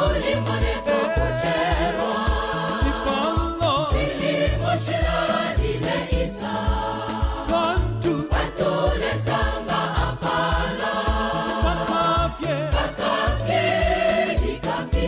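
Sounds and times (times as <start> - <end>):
choir singing in harmony: 0.0 - 15.0
instrumental accompaniment with bass line: 0.0 - 15.0.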